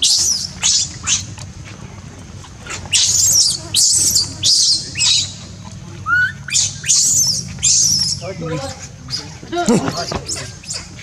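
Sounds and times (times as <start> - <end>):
infant monkey screeching: 0.0 - 1.3, 2.7 - 5.4, 6.0 - 11.0.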